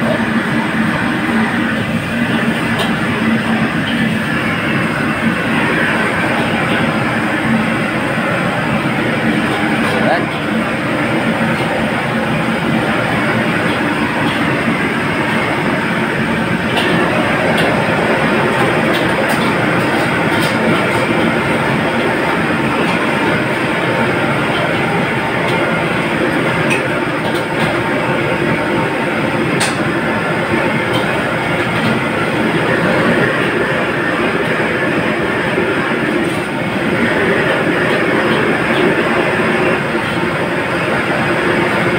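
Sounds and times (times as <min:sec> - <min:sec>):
gas burner rushing: 0:00.0 - 0:41.9.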